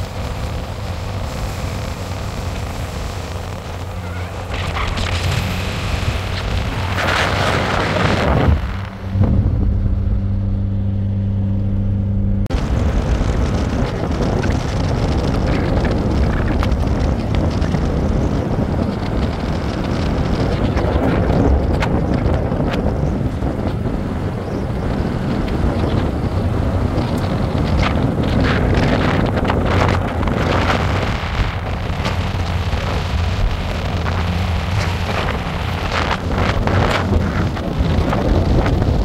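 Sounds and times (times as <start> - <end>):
wind on microphone: 0.0 - 11.8, 12.4 - 39.0
road noise: 0.0 - 39.0
vehicle engine hum: 0.0 - 39.0.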